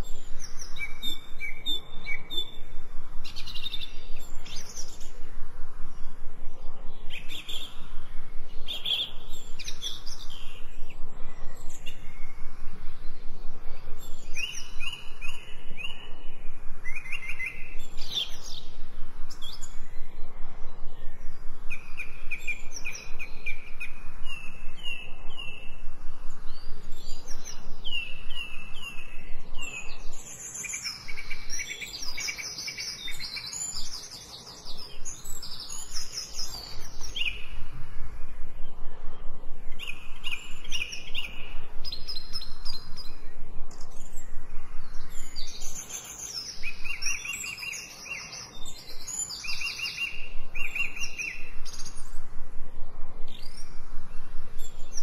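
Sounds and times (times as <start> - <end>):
background hiss: 0.0 - 55.0
songbirds singing: 0.0 - 55.0.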